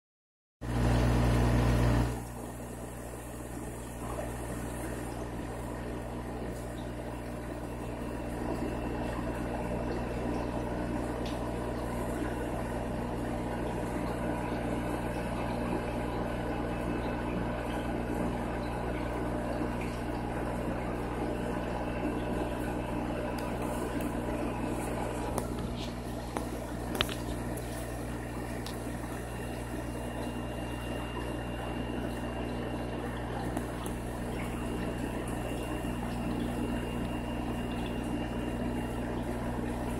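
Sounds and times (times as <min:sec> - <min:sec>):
aquarium filters humming and trickling: 0:00.6 - 0:39.9.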